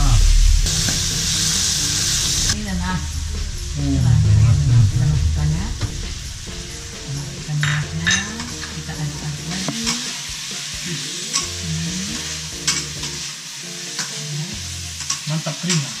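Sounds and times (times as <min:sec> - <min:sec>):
vegetables sizzling in wok: 0:00.0 - 0:16.0.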